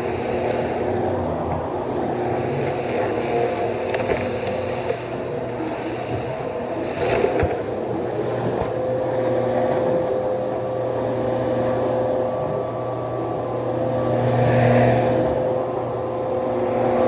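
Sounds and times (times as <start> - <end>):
vacuum cleaner motor whining: 0.0 - 17.0.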